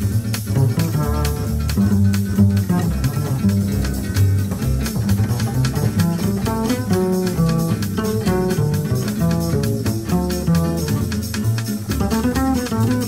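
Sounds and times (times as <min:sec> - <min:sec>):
plucked double basses jazz: 0:00.0 - 0:13.0.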